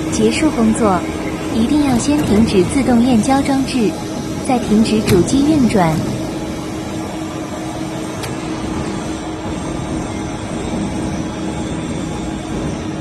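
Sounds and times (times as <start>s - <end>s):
industrial machine drone: 0.0s - 13.0s.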